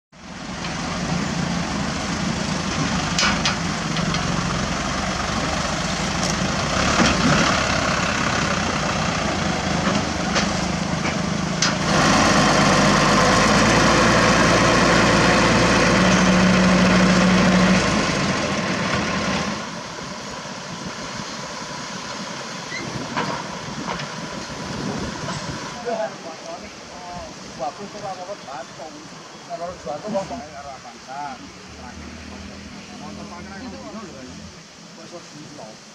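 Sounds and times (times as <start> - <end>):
diesel truck engines running: 0.2 - 35.9.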